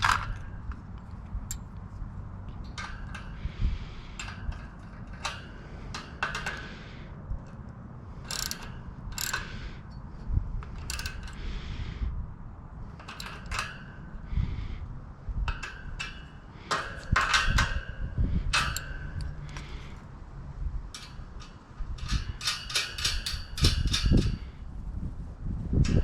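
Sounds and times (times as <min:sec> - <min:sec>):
metallic clicks and rasps of tools: 0:00.0 - 0:11.6, 0:12.9 - 0:14.3, 0:15.5 - 0:20.0, 0:20.9 - 0:24.5.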